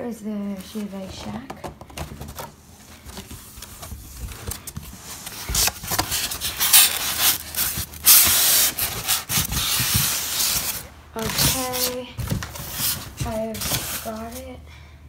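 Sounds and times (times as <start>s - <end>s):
plastic scraping cardboard box: 1.1s - 14.5s
plastic wrapping crinkling: 2.2s - 14.6s.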